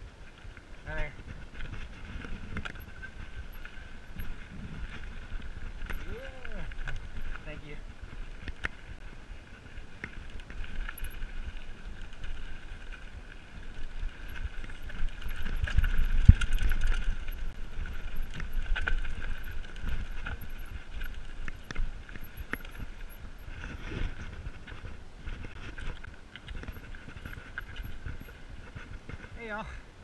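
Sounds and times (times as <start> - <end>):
bike tyres rattling over rough ground: 0.0 - 30.0
wind rumble: 0.0 - 30.0.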